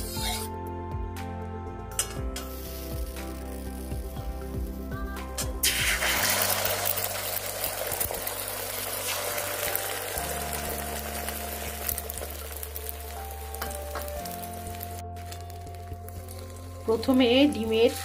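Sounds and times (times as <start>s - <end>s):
eggs sizzling in hot oil: 2.0s - 18.0s.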